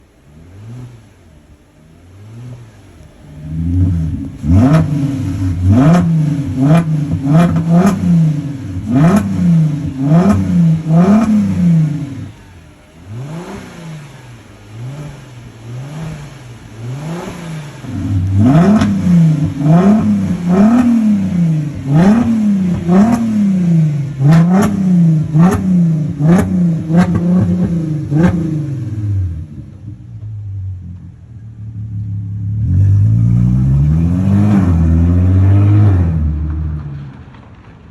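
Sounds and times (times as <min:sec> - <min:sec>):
car engine revving in blips: 0:00.0 - 0:37.9
exhaust cracks: 0:00.0 - 0:37.9.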